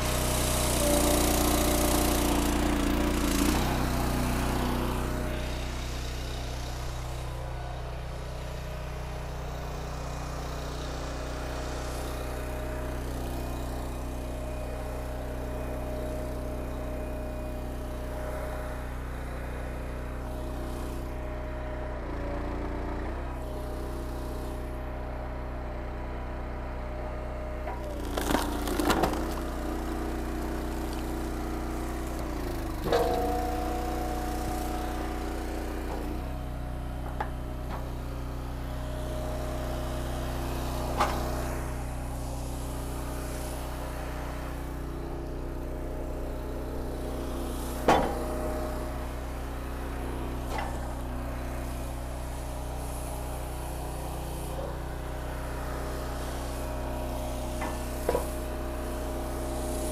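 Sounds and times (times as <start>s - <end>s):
log splitter engine labouring: 0.0s - 59.9s.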